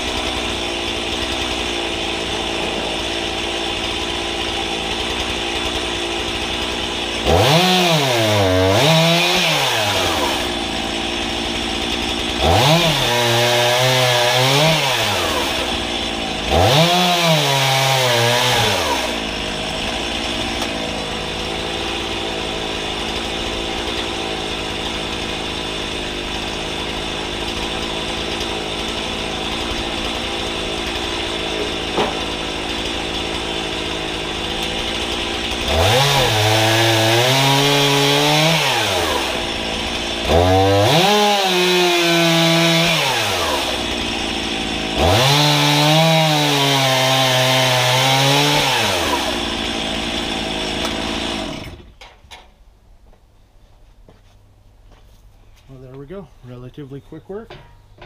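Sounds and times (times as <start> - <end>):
chainsaw idling and revving: 0.0 - 52.0
chainsaw cutting through logs: 0.0 - 52.2.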